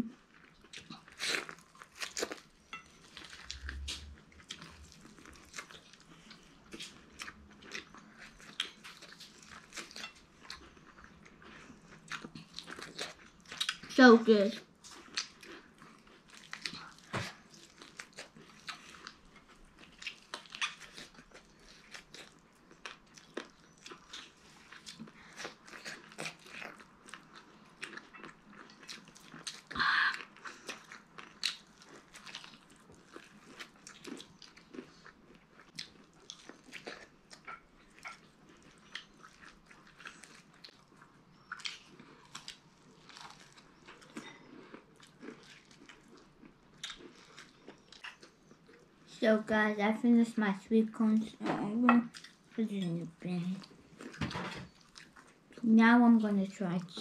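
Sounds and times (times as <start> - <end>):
crunchy chewing: 0.2 - 13.9, 14.8 - 48.9.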